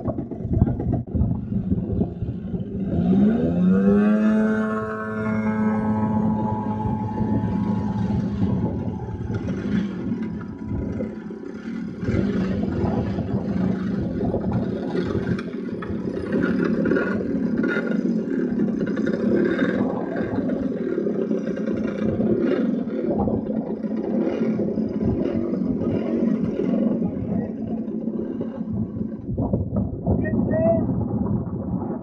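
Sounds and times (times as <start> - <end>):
rumbling noise: 0.0 - 32.0.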